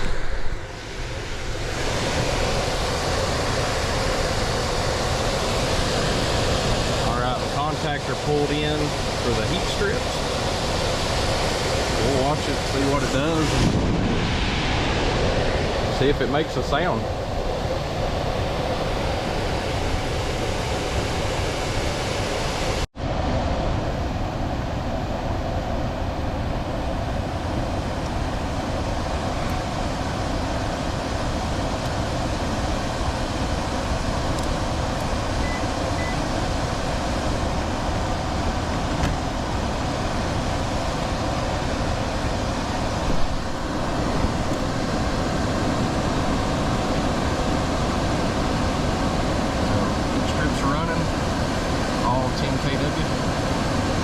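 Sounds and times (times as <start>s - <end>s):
air handler blower rushing: 0.0s - 54.0s.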